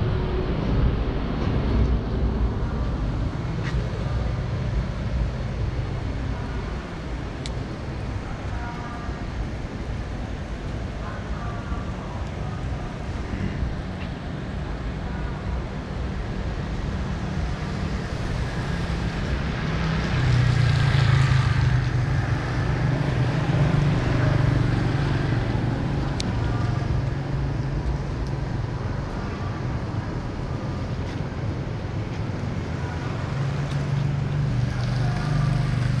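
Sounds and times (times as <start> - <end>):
traffic on wet road: 0.0 - 36.0.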